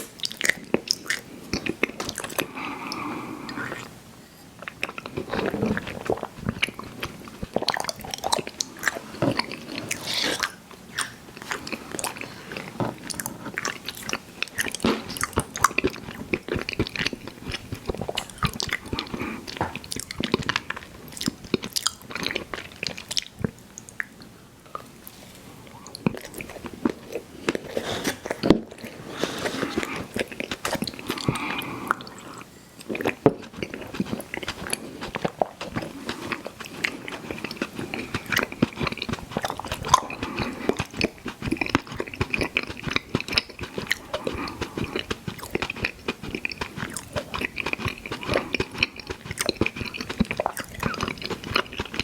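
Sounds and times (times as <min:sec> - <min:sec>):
chewing sticky candy: 0:04.6 - 0:24.2, 0:25.6 - 0:52.0.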